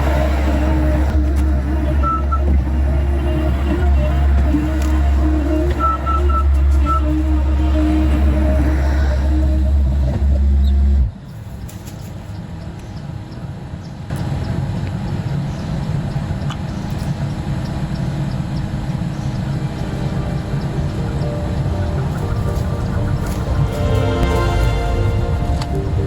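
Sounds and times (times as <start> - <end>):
engine running: 0.0 - 11.2, 14.1 - 26.0
loud low hum: 0.0 - 11.6, 12.3 - 26.0.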